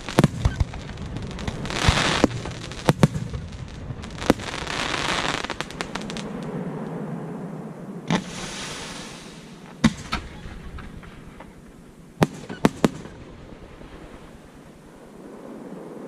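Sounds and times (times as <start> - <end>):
fireworks bursting in bangs: 0.0 - 6.4, 8.1 - 14.6
fireworks crackling hiss: 0.0 - 6.6, 8.1 - 16.0.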